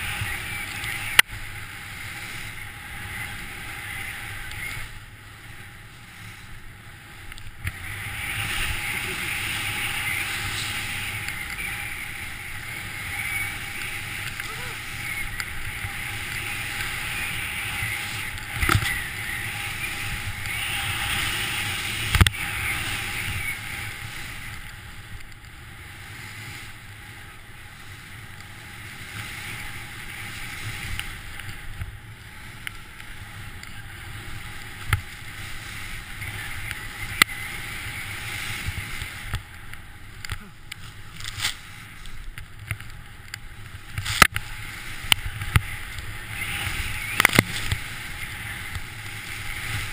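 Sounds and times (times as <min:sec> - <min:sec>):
skis hissing through powder snow: 0:00.0 - 0:49.9.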